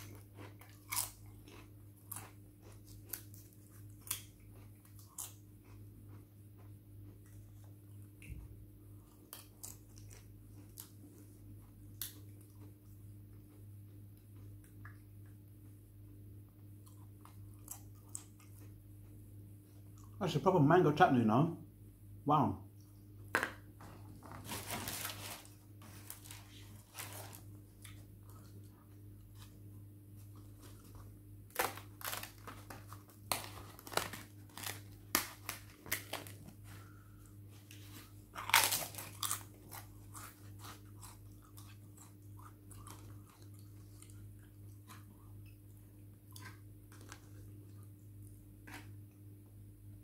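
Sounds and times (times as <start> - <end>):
person chewing crisp papadum: 0.0 - 20.2, 24.9 - 49.2.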